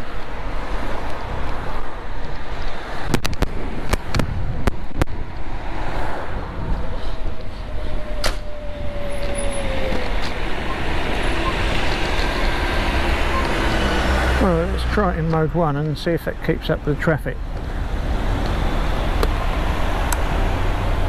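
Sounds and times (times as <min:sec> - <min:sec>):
road rumble: 0:00.0 - 0:21.0
wind: 0:00.0 - 0:21.0.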